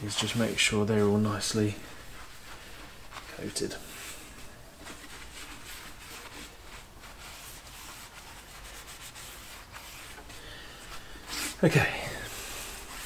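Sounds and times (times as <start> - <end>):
hand rubbing oil on metal: 0.0 - 13.0.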